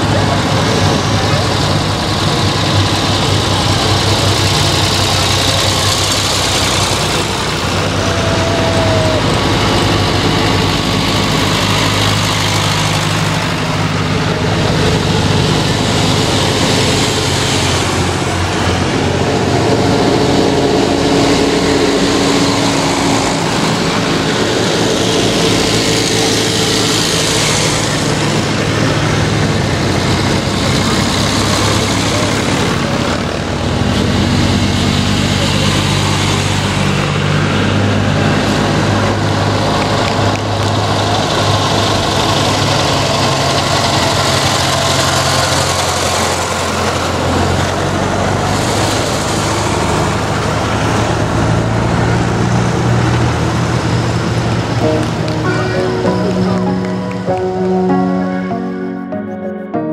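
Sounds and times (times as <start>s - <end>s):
tractor engines passing: 0.0s - 59.1s.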